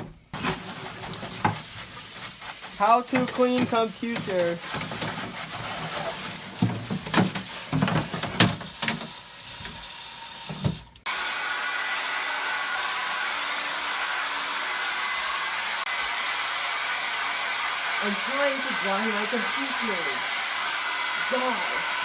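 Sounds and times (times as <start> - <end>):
hair dryer blowing: 0.4 - 9.8, 10.5 - 22.0.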